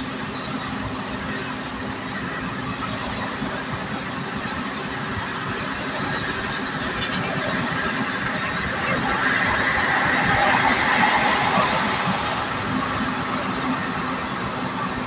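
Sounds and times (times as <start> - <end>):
vehicle tyre and engine noise: 0.0 - 15.0.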